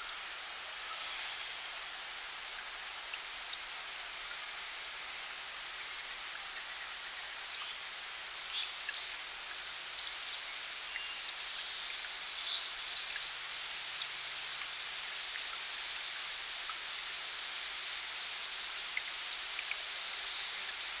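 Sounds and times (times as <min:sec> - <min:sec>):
spring water trickling: 0:00.0 - 0:21.0.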